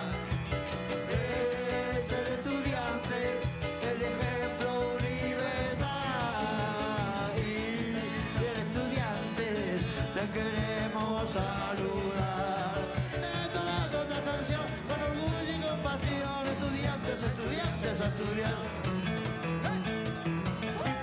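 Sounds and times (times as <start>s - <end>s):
electric guitar: 0.0s - 21.0s
man singing: 0.0s - 21.0s
steady drum beat: 0.0s - 21.0s.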